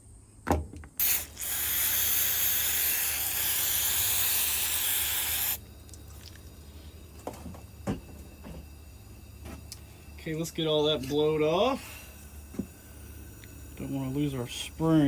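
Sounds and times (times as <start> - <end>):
spray can hissing: 1.0 - 15.0.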